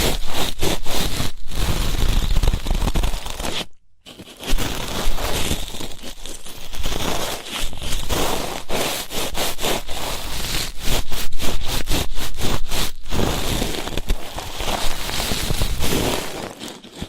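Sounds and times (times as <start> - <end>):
ear-cleaning tool scraping: 0.0 - 17.0.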